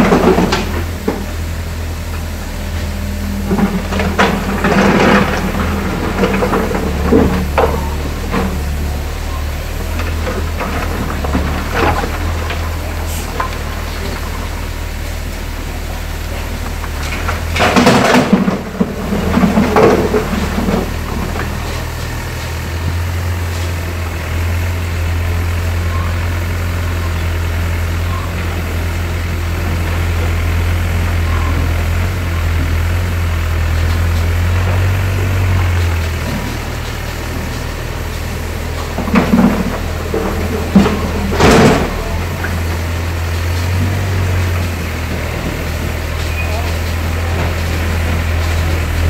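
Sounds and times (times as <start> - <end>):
demolition rubble crashing: 0.0 - 1.9, 2.6 - 24.8, 28.0 - 49.0
excavator diesel engine running: 0.0 - 49.0.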